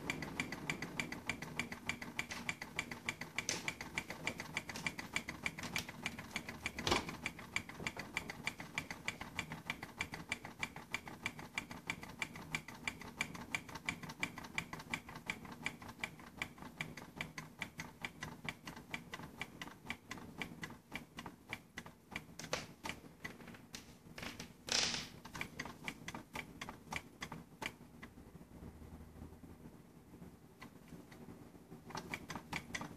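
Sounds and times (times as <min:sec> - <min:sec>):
small engine ticking rapidly: 0:00.0 - 0:23.3, 0:25.3 - 0:27.8, 0:31.9 - 0:32.9.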